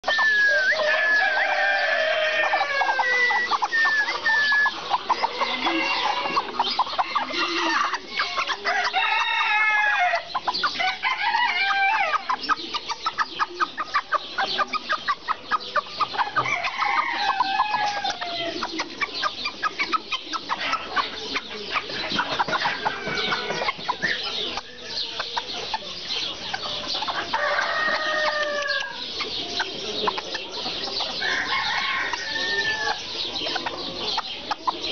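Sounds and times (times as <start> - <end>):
roosters crowing: 0.0 - 25.1, 26.2 - 34.9
chickens clucking: 0.0 - 34.9.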